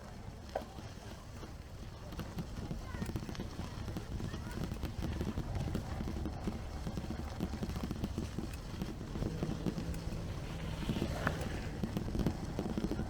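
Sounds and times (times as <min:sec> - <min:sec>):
bicycle wheels on rough ground: 0:00.0 - 0:13.0
wind on microphone: 0:00.0 - 0:13.0.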